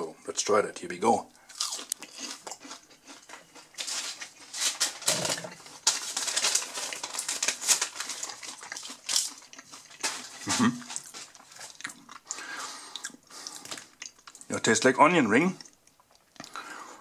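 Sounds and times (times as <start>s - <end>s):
chewing crunchy food: 1.3s - 14.6s, 15.5s - 17.0s.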